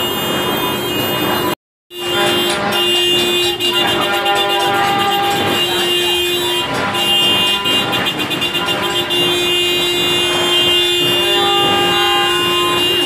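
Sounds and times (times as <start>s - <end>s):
horns honking long blasts: 0.0s - 13.0s.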